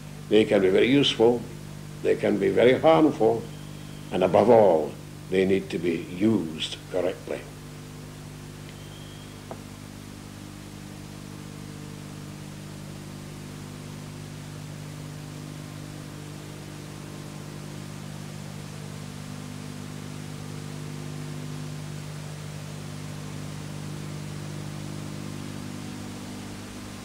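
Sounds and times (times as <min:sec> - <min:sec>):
electrical hum: 0:00.0 - 0:27.0
tape hiss: 0:00.0 - 0:27.0.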